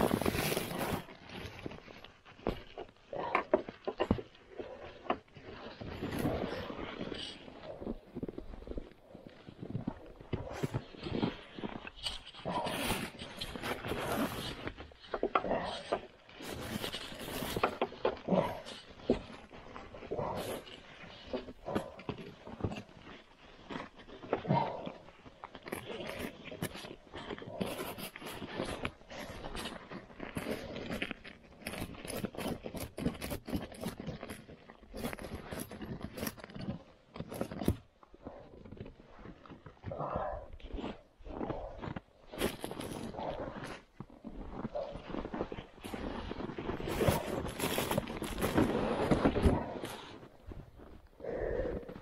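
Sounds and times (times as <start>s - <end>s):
tarp and strap rustling: 0.0s - 3.3s, 4.4s - 38.4s, 42.3s - 52.0s.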